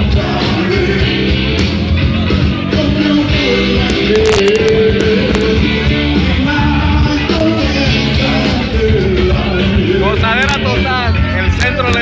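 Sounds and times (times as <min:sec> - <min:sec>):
person singing: 0:00.0 - 0:10.2
rock band playing loudly: 0:00.0 - 0:12.0.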